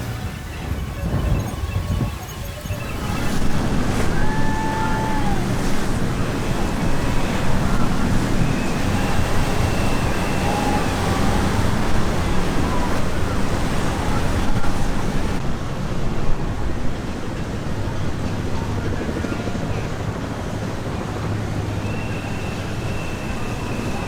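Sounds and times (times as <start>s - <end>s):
boat engines running: 0.0s - 24.0s
water wash: 0.0s - 24.0s
wind on microphone: 0.0s - 24.0s.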